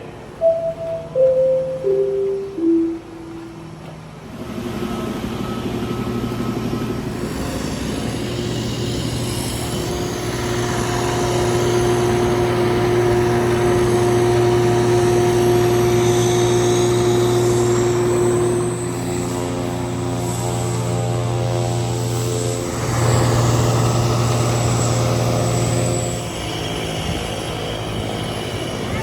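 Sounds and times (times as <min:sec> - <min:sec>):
turboprop engines droning in cabin: 0:00.1 - 0:29.0.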